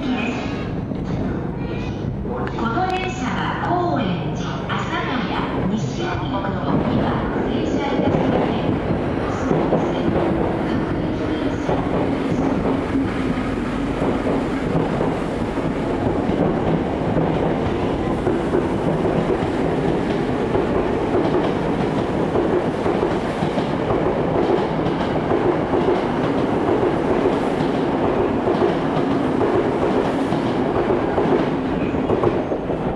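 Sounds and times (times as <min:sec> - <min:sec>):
electric train rumbling past: 0:00.0 - 0:32.9.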